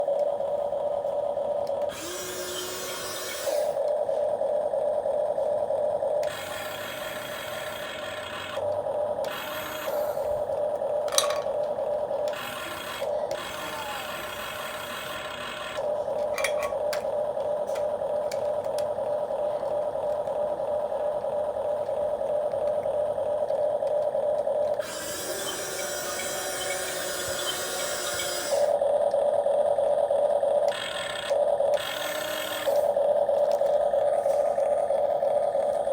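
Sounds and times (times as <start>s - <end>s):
electric motors whining: 0.0s - 35.9s.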